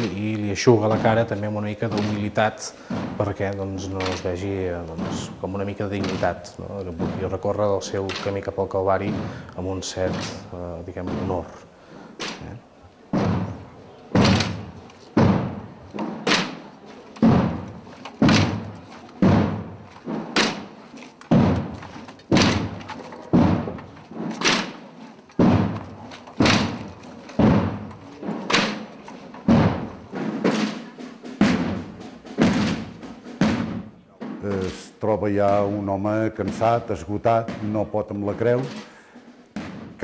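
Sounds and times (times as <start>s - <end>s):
slow drum beat: 0.0s - 40.0s.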